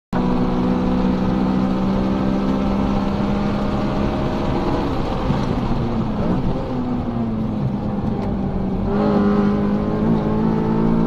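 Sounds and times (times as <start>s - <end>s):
car engine from inside cabin: 0.2s - 11.0s.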